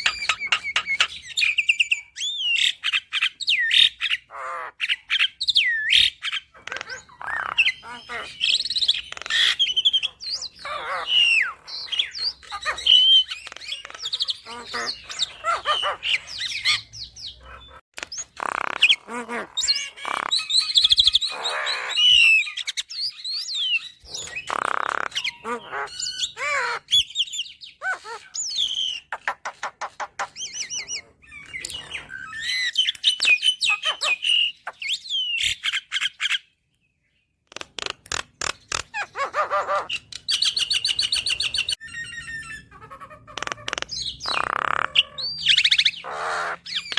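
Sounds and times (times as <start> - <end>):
myna bird singing: 0.0 - 46.9.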